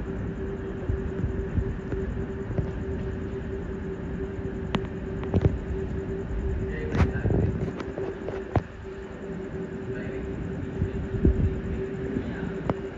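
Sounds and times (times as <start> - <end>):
metro train rumbling: 0.0 - 12.9.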